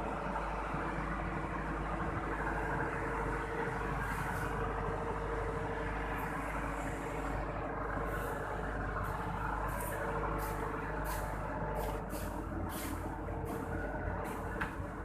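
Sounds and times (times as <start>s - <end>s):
machine droning: 0.0s - 15.0s.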